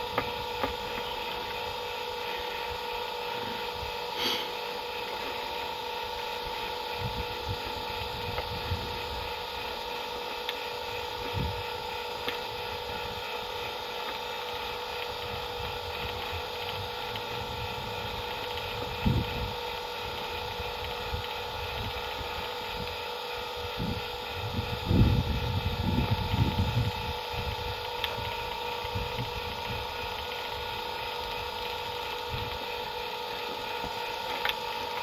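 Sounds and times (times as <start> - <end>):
two-tone electrical hum: 0.0 - 35.0.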